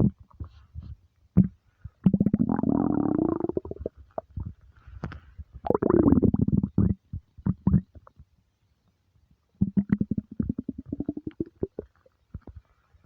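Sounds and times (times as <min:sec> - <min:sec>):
stomach rumbling: 0:00.0 - 0:08.4, 0:09.6 - 0:13.0.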